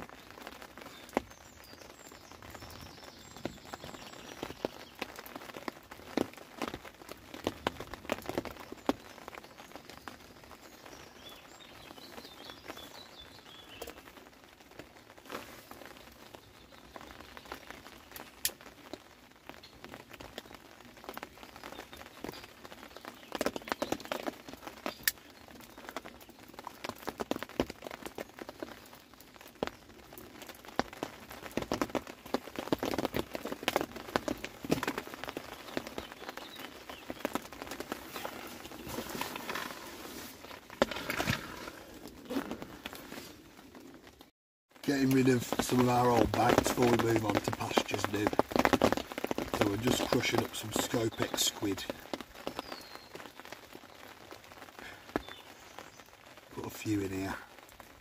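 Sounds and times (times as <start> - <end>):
rain pattering on umbrella canopy: 0.0 - 58.0.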